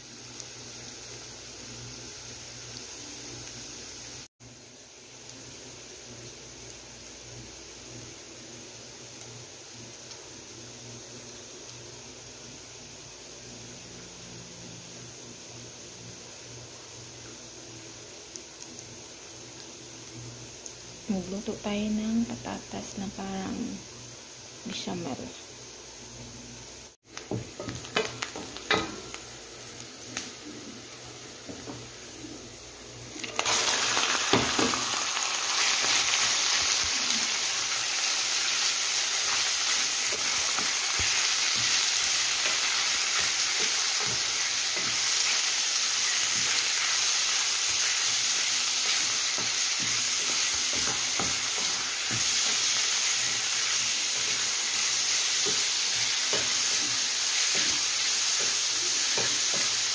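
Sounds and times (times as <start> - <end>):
chicken sizzling loudly: 0.0 - 59.9
onion and garlic frying: 0.0 - 59.9.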